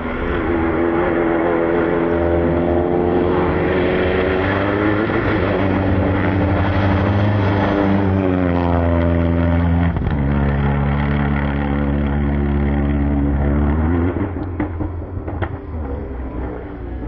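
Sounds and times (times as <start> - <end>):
rally car engine running hard: 0.0 - 17.0.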